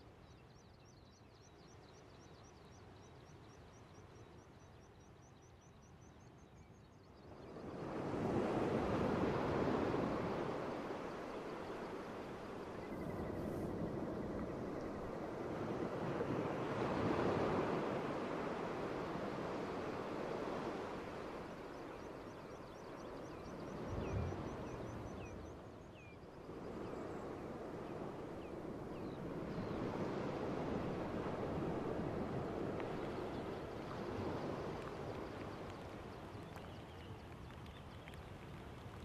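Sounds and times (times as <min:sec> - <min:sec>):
wind: 0:00.0 - 0:39.0.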